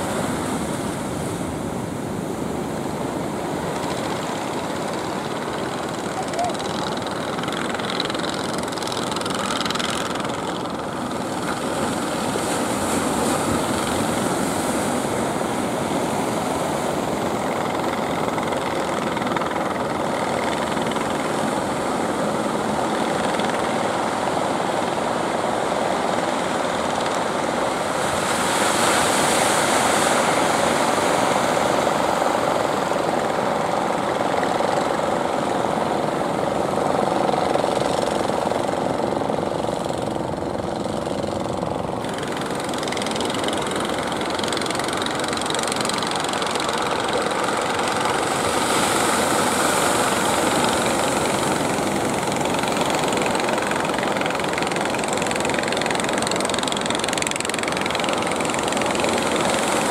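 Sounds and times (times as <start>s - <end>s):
boat engines droning: 0.0s - 59.9s
surf washing onto shore: 0.0s - 59.9s.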